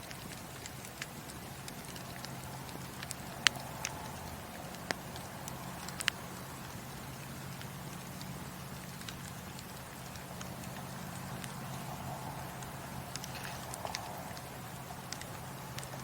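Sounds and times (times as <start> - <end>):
wood fire crackling and popping: 0.0 - 16.0
low rush of flames: 0.1 - 16.0.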